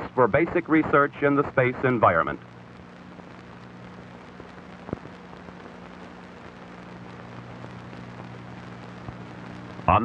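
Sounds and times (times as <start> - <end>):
crackle: 0.0 - 10.0
film soundtrack hiss: 0.0 - 10.0.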